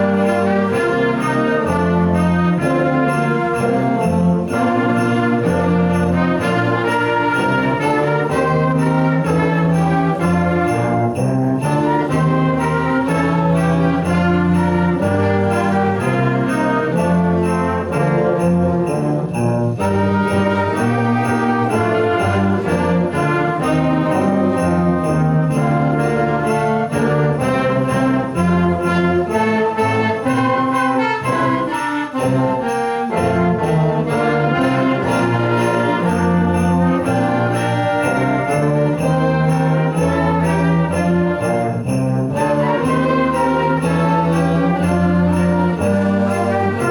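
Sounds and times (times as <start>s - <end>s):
brass ensemble christmas music: 0.0s - 46.9s
sleigh bells shaken: 0.0s - 46.9s.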